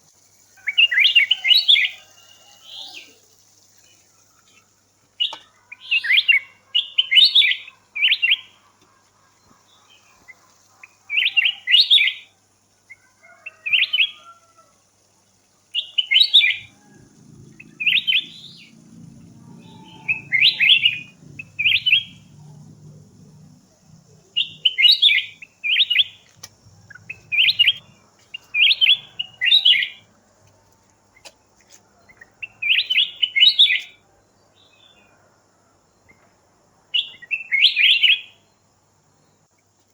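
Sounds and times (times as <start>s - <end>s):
bird chirping: 0.0s - 14.4s, 15.3s - 30.1s, 31.1s - 35.2s, 36.9s - 39.6s.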